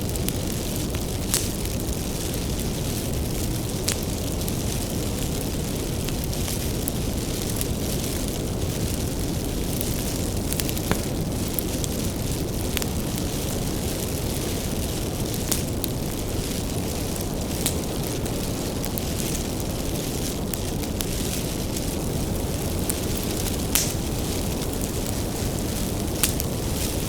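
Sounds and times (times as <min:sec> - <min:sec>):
bonfire rumbling: 0:00.0 - 0:27.0
firewood crackling and popping: 0:00.0 - 0:27.0.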